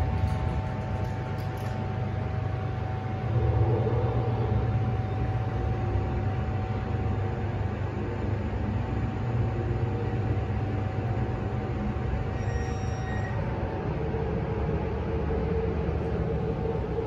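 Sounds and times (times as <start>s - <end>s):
elevator low drone and hum: 0.0s - 17.0s.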